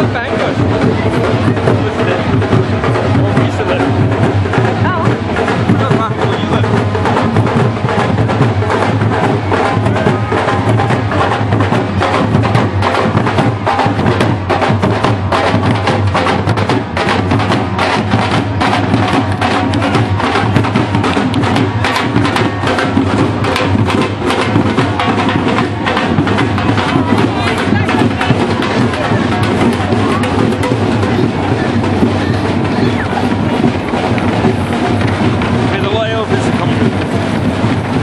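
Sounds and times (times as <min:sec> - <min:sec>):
percussion band drumming: 0:00.0 - 0:38.0.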